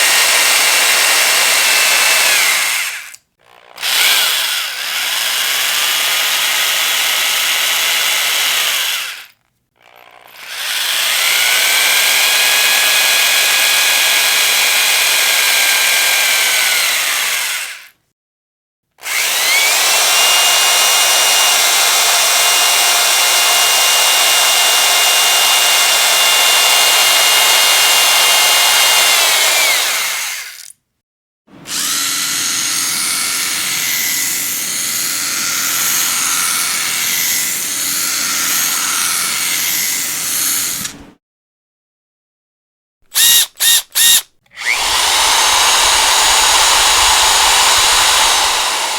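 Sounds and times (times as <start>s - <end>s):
electric power drill whining: 0.0s - 18.0s, 19.0s - 30.7s, 31.6s - 41.0s, 43.1s - 48.9s.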